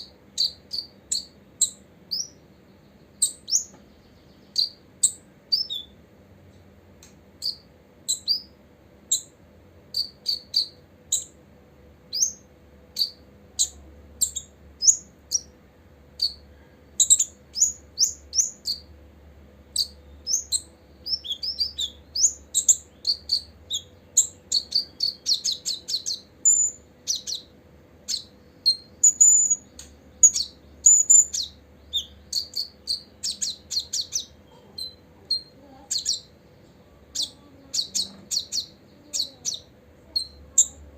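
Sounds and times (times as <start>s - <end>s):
bird chirping: 0.0s - 6.0s, 7.0s - 11.4s, 12.1s - 19.0s, 19.6s - 40.9s.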